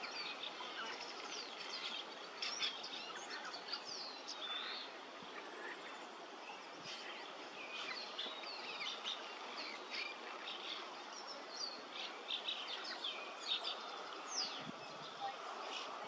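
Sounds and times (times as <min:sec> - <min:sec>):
steady background hiss: 0:00.0 - 0:16.0
swallows chirping: 0:00.0 - 0:16.0.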